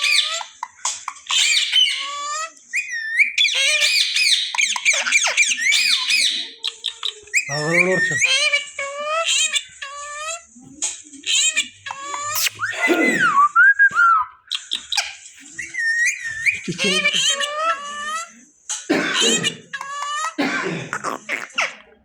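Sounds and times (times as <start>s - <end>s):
parrots chattering and squawking: 0.0s - 13.3s, 14.4s - 22.0s.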